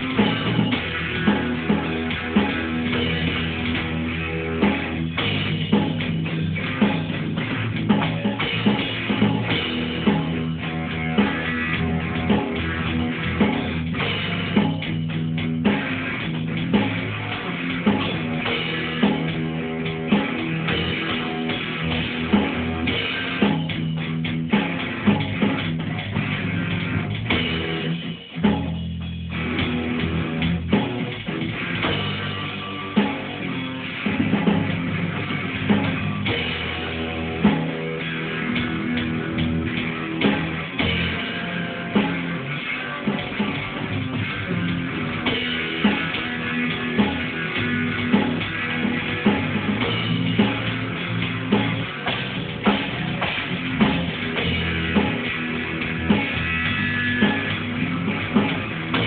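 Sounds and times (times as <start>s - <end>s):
drum accents: 0.0s - 59.0s
heavy metal band playing: 0.0s - 59.0s.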